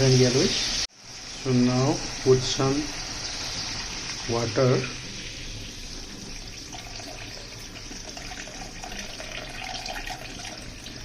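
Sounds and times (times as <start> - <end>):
water hissing in a hot pan: 0.0 - 11.0.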